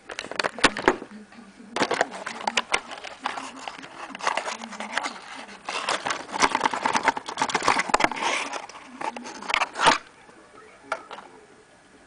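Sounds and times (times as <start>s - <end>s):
plastic crackling and rustling: 0.0s - 11.4s.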